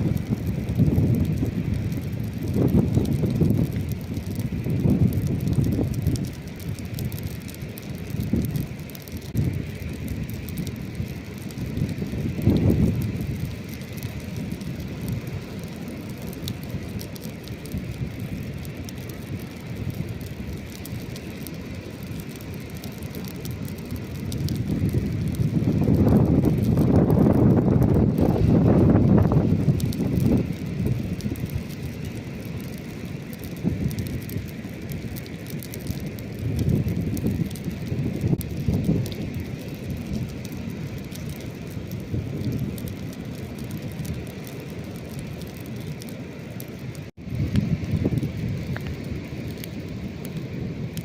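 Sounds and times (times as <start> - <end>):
campfire crackling with pops: 0.0 - 51.0
ocean surf rumbling: 0.0 - 51.0.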